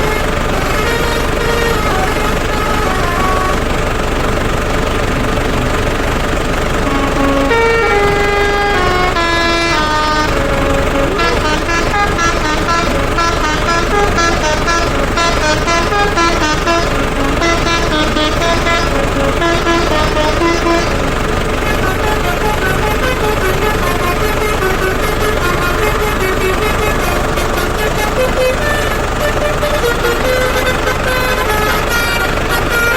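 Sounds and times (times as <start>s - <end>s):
multi-tone horn melody: 0.0s - 32.9s
steady drone: 0.0s - 32.9s.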